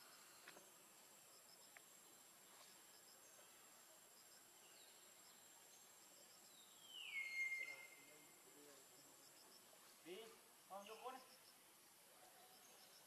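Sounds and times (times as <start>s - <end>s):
faint insect chirping: 0.0s - 13.0s.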